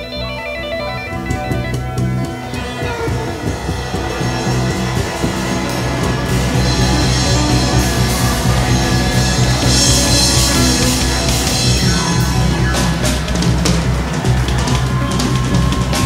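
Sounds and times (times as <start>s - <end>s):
alto saxophones: 0.0s - 16.0s
jazz combo playing: 0.0s - 16.0s
drum and cymbal hits: 1.1s - 16.0s.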